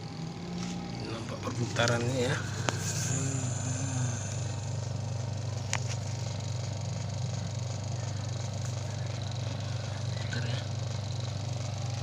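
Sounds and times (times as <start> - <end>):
spin-dryer motor humming: 0.0 - 12.0.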